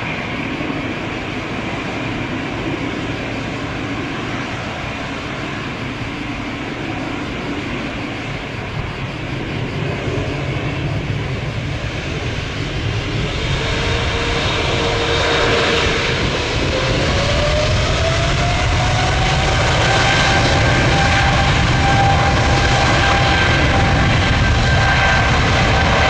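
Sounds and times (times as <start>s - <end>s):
jet engine whine: 0.0s - 26.0s.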